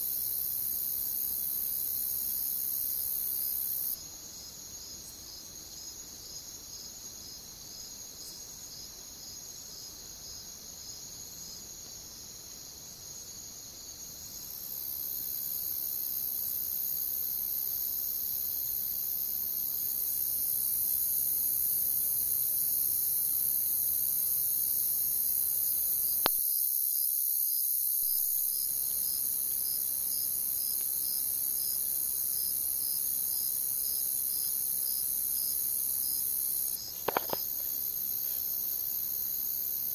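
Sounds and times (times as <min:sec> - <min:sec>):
dense high cricket trill: 0:00.0 - 0:39.9
pulsing cricket chirp: 0:00.0 - 0:39.9.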